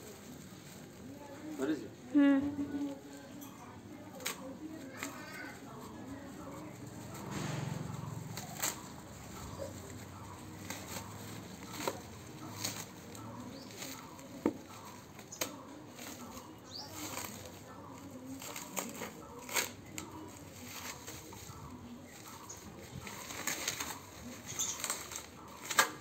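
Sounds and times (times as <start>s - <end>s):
paper and plastic wrapping crinkling: 0.0s - 26.0s.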